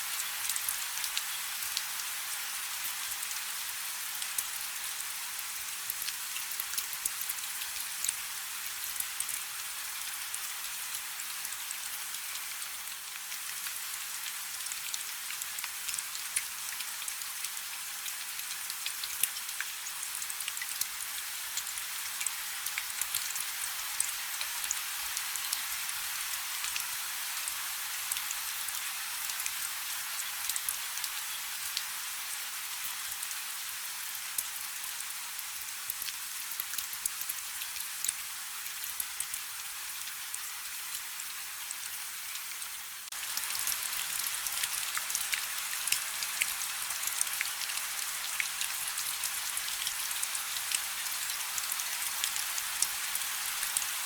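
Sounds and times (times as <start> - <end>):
light rain falling: 0.0 - 54.0.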